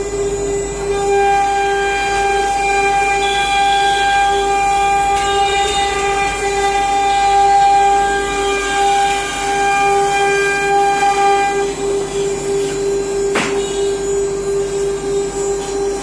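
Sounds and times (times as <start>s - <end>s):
router spindle whining: 0.0s - 16.0s.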